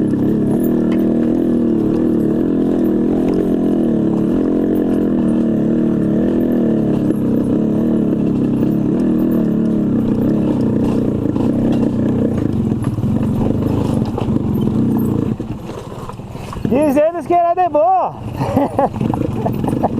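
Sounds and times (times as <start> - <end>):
two-stroke motorcycle engine: 0.0 - 19.9.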